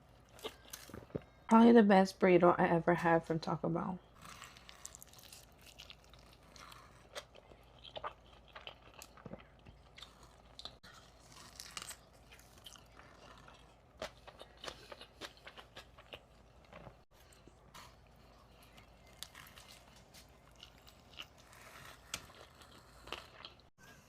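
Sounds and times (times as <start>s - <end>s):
crunchy chewing: 4.2s - 23.7s.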